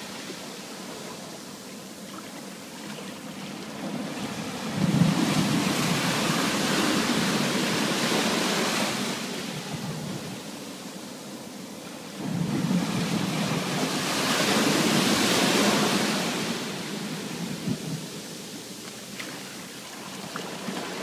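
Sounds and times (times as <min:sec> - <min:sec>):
ocean waves breaking: 0:00.0 - 0:21.0
soft wash of water: 0:00.0 - 0:21.0.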